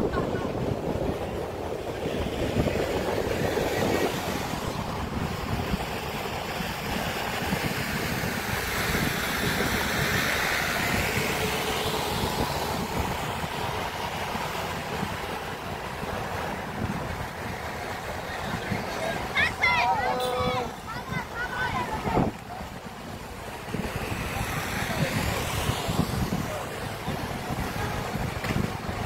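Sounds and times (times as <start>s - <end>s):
street traffic rushing: 0.0s - 29.0s
wind on microphone: 0.0s - 29.0s.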